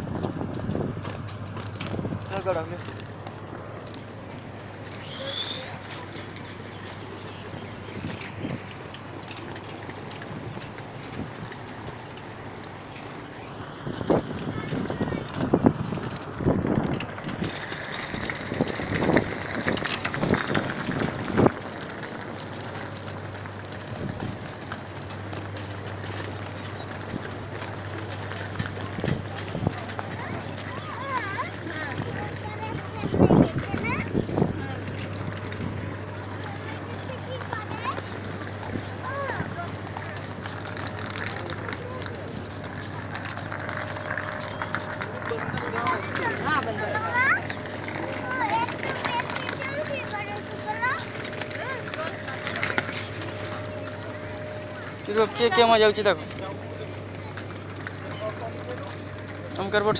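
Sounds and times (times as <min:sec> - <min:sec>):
luggage trolley rattling on concrete: 0:00.0 - 0:59.9
steady low hum: 0:00.0 - 0:59.9.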